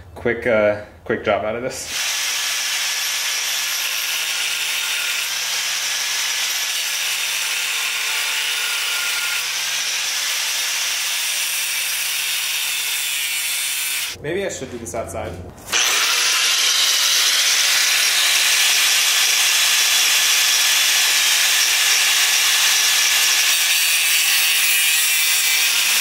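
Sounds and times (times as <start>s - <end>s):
angle grinder cutting metal tube: 1.9s - 14.2s, 15.7s - 26.0s.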